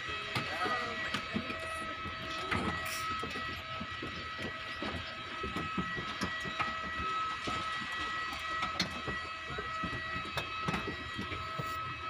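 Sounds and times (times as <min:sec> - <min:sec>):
footsteps on metal stairs: 0:00.0 - 0:12.0
jet airliner whine: 0:00.0 - 0:12.0.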